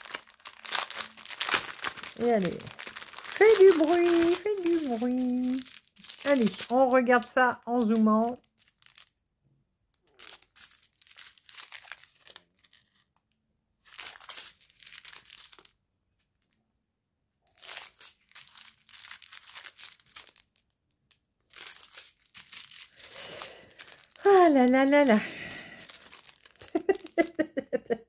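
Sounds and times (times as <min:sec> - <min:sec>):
plastic sachets crinkling: 0:00.0 - 0:09.2, 0:10.0 - 0:13.2, 0:13.8 - 0:16.6, 0:17.5 - 0:27.5.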